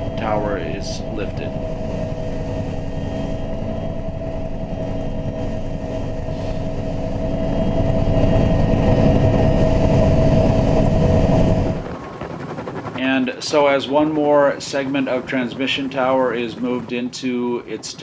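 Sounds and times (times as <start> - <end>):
helicopter engine whine: 0.0 - 18.0
helicopter rotor beat: 0.0 - 18.0.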